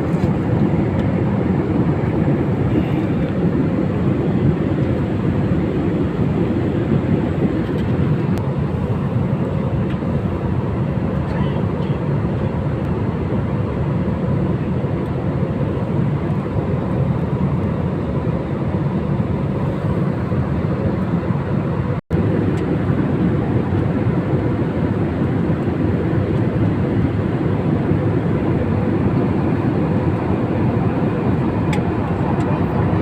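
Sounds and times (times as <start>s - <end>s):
jet engine and airflow rush: 0.0s - 33.0s.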